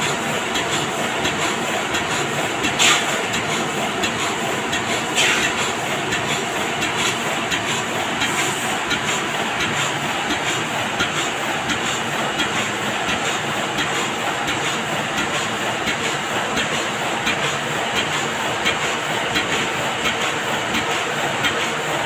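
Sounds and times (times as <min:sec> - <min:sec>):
printing press running: 0:00.0 - 0:22.0.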